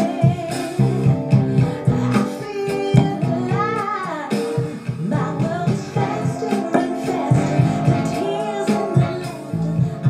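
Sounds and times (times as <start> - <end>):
song with guitar and singing: 0.0 - 10.0.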